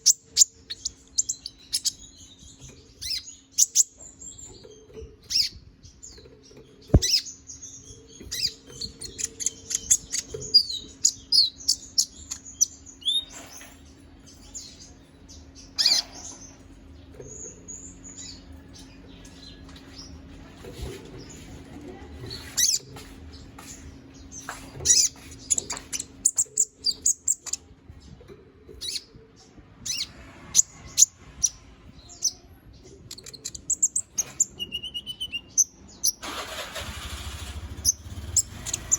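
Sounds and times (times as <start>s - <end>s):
bird chirping and twittering: 0.0s - 38.9s.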